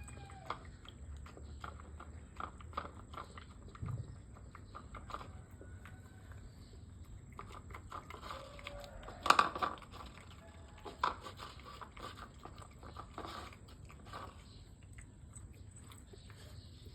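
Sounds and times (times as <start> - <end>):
puppy chewing and crunching: 0.0 - 16.9.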